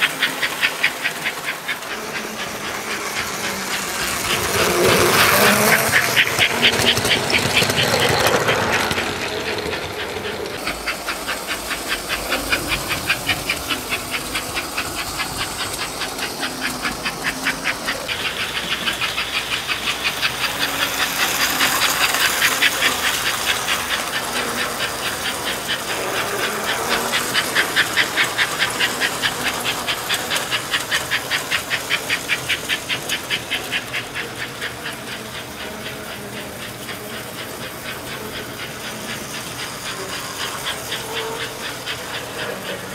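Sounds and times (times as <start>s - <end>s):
model steam locomotive chuffing: 0.0s - 42.9s
model train motor and wheels: 0.0s - 42.9s.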